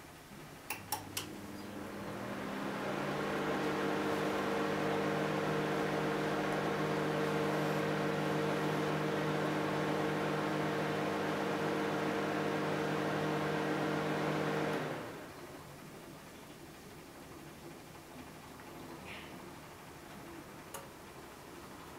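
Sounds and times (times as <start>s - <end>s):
microwave oven humming: 0.6s - 21.9s.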